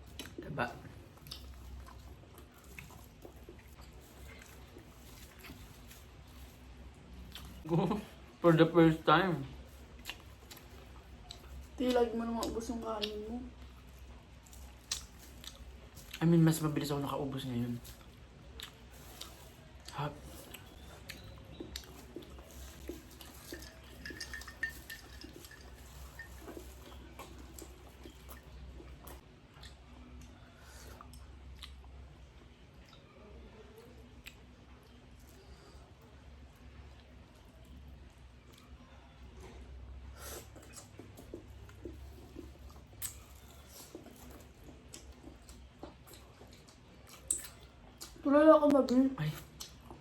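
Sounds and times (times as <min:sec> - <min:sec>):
person chewing: 0:00.0 - 0:08.3, 0:09.6 - 0:33.1, 0:39.5 - 0:48.2, 0:48.8 - 0:50.0
low steady hum: 0:00.0 - 0:50.0.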